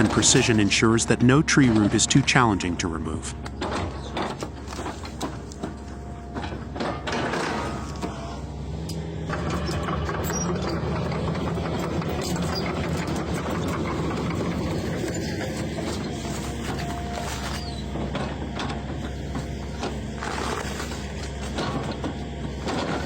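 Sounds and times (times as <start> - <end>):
excavator engine under load: 0.0 - 23.0.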